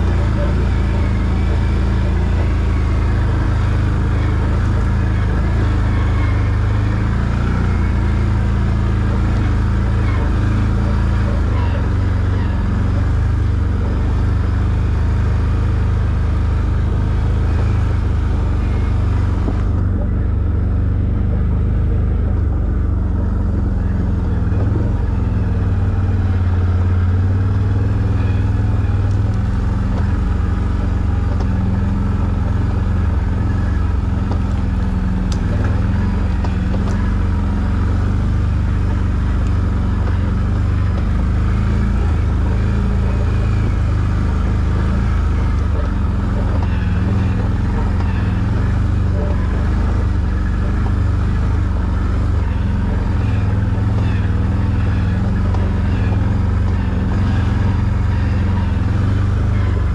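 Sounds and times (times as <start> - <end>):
atv engine droning: 0.0 - 59.9.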